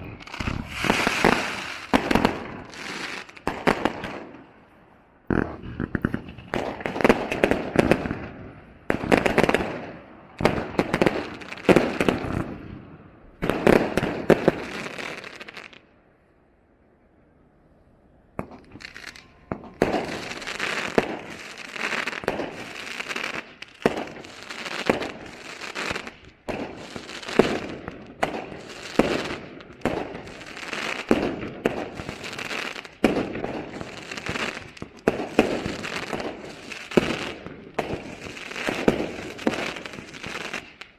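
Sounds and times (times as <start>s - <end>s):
fireworks crackling: 0.0s - 12.7s, 13.3s - 15.8s, 18.4s - 40.9s
fireworks bangs: 0.0s - 15.8s, 18.4s - 40.9s.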